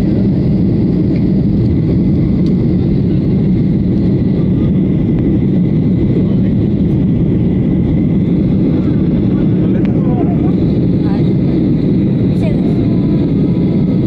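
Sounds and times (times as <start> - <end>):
jet engine rumble in cabin: 0.0 - 14.0.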